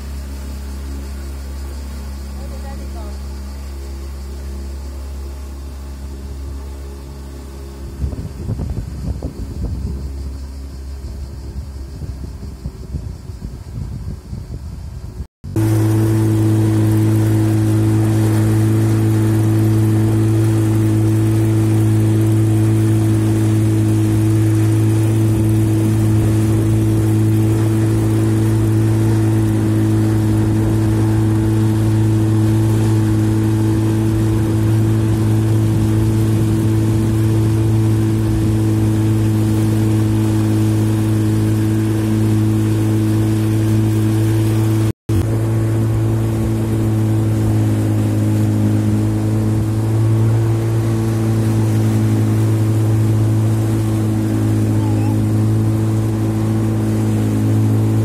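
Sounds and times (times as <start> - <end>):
outboard motor running: 0.0 - 58.0
wake and wind hiss: 0.0 - 58.0.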